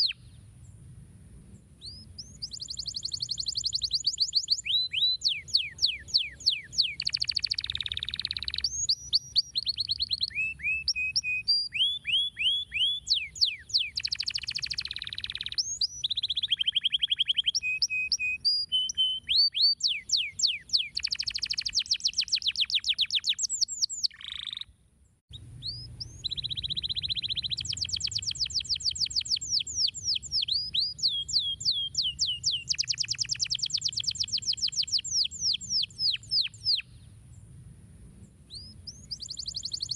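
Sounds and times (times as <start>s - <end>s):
canary song: 0.0s - 0.8s, 1.5s - 24.7s, 25.3s - 37.5s, 38.4s - 39.9s.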